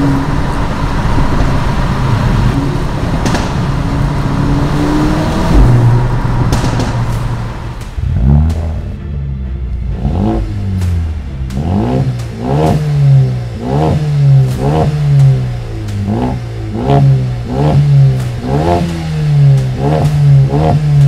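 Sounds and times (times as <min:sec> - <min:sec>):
car engine revving in blips: 0:00.0 - 0:21.0.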